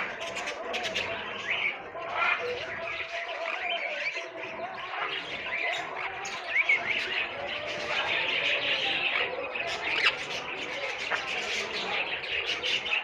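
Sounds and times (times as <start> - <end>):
parrots chattering and squawking: 0.0 - 13.0.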